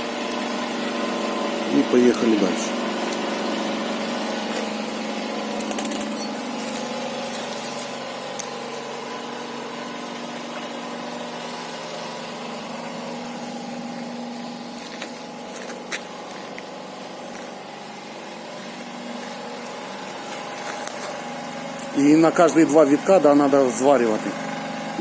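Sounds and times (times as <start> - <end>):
roller machine humming: 0.0 - 25.0.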